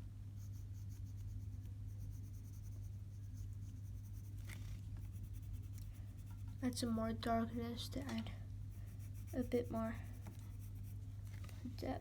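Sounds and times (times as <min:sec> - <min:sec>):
steady low hum: 0:00.0 - 0:12.0
pencil scratching on paper: 0:00.4 - 0:07.9, 0:08.7 - 0:11.0.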